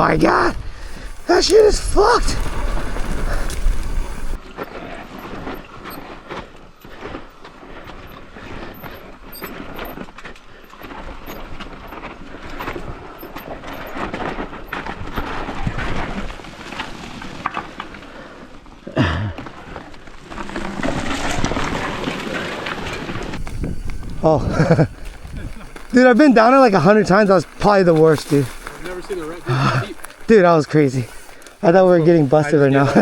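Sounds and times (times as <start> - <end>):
tyres crunching over dirt and rocks: 0.0 - 33.0.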